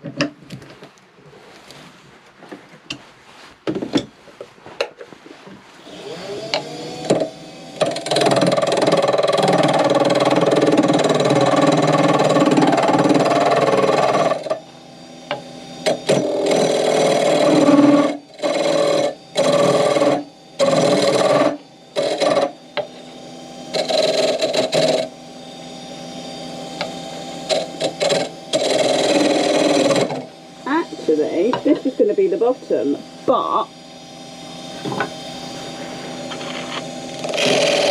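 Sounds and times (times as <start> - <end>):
turning tool cutting wood: 5.8 - 37.9
wood lathe motor humming: 5.8 - 37.9.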